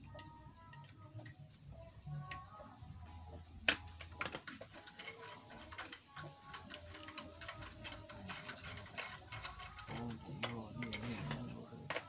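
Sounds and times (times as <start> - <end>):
clicking and metallic tapping: 0.0 - 12.0.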